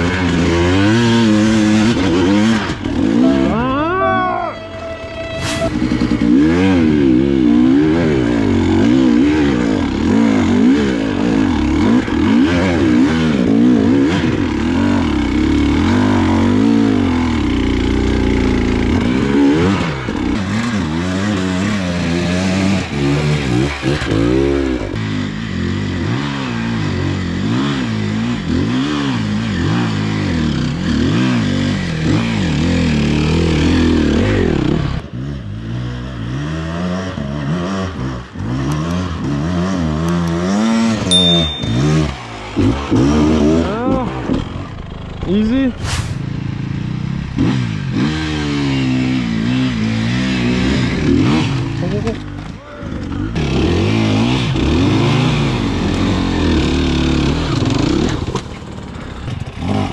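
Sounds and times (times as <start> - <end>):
two-stroke motorcycle engines revving: 0.0 - 4.7, 5.7 - 59.9.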